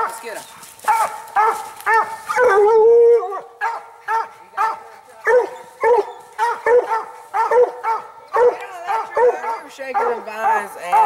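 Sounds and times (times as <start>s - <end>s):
dog barking: 0.8s - 2.6s, 3.6s - 11.0s.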